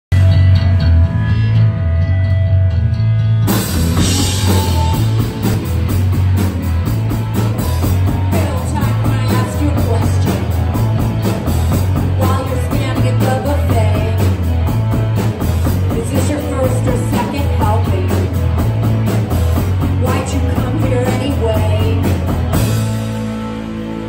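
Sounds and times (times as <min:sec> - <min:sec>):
live rock band playing: 0:00.1 - 0:24.0.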